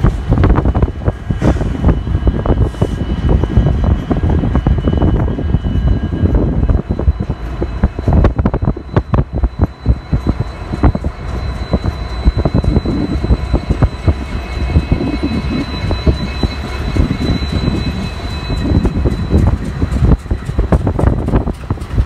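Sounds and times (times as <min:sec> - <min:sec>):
diesel locomotive engines rumbling: 0:00.0 - 0:22.0
thin high whine: 0:01.5 - 0:21.3.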